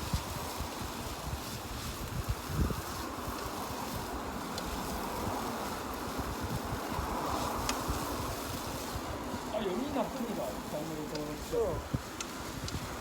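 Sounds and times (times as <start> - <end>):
faint sharp crackles: 0.0 - 13.0
wind rumbling on microphone: 0.0 - 13.0.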